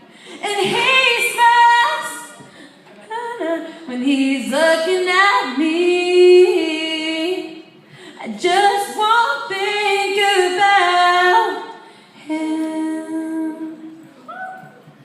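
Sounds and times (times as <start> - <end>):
woman singing a cappella: 0.4 - 2.4, 3.1 - 14.0.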